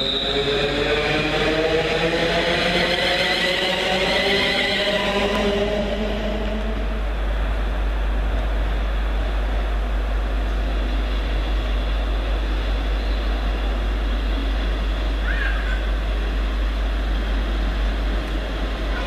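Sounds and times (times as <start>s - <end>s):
train rumble and hiss: 0.0s - 19.0s.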